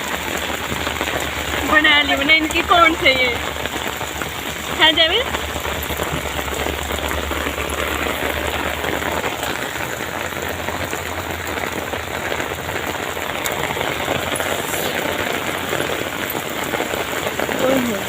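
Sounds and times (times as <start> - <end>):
rain downpour: 0.0 - 18.0.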